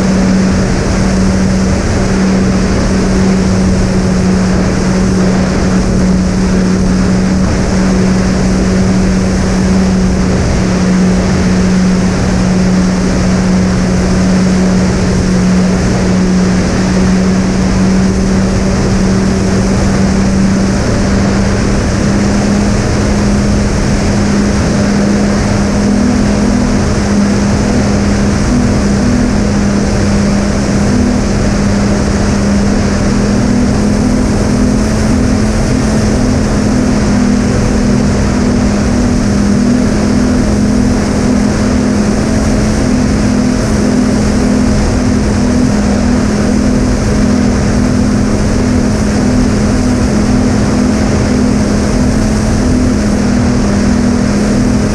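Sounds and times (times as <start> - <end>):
drone motors humming: 0.0 - 54.9
wind rush: 0.0 - 54.9.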